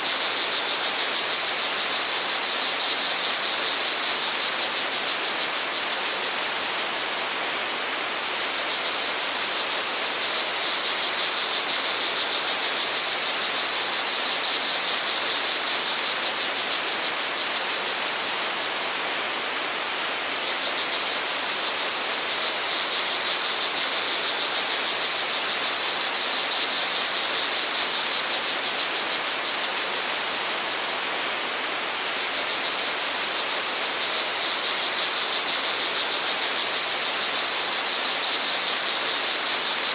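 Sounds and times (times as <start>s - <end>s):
crickets trilling: 0.0s - 7.5s, 8.2s - 19.1s, 20.3s - 31.0s, 31.8s - 39.9s.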